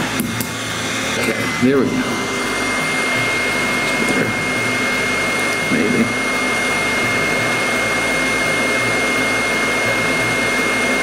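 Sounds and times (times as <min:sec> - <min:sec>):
hot air gun blowing with whine: 0:00.0 - 0:11.0.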